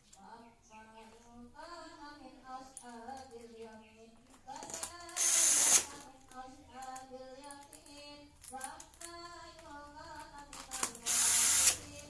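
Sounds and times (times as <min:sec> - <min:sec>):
person singing: 0:00.0 - 0:12.0.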